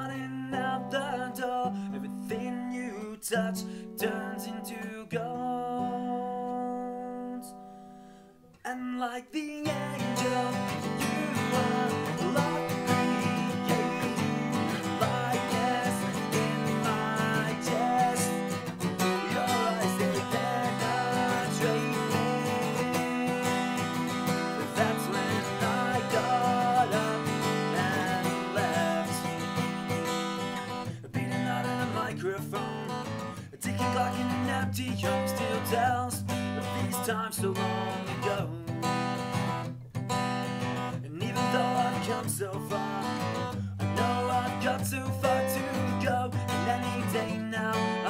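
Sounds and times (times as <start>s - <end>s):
man singing: 0.0s - 7.6s, 8.6s - 39.2s, 41.0s - 48.0s
acoustic guitar strumming: 0.0s - 8.7s, 9.5s - 48.0s.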